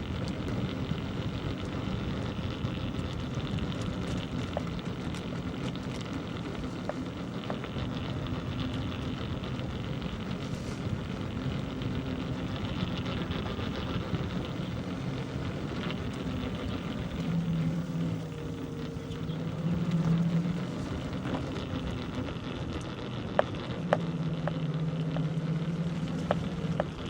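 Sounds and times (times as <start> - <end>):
bicycle road noise: 0.0 - 27.0
low hum: 0.0 - 27.0
wind noise: 0.0 - 27.0.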